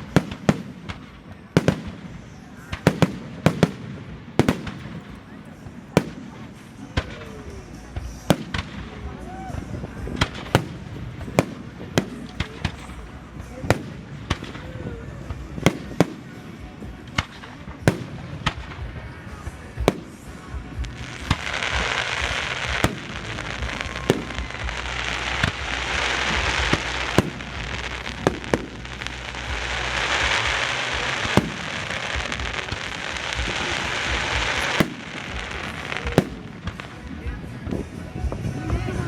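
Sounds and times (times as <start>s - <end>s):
firework bangs: 0.0s - 39.0s
loud crackling hiss: 0.0s - 39.0s.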